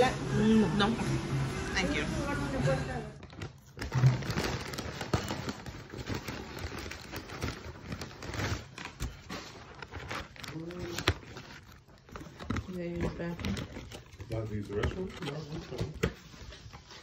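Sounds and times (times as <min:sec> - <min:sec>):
paper bag rustling: 0:01.4 - 0:17.0.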